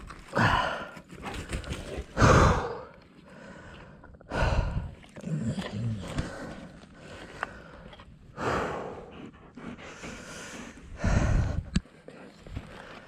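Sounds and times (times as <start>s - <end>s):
heavy breathing: 0.2s - 13.0s.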